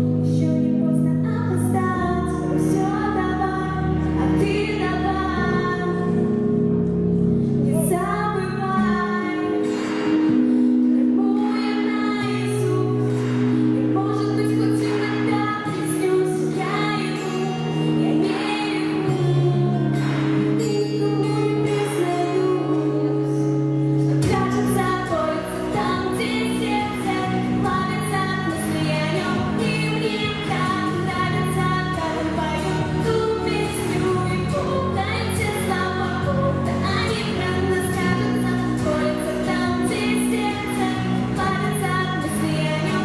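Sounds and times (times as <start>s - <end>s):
woman singing pop song: 0.0s - 43.0s.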